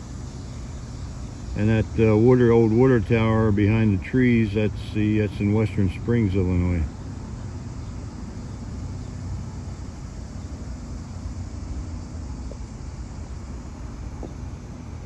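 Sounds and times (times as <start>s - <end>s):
faint steady hum: 0.0s - 15.0s
outdoor background rumble: 0.0s - 15.0s.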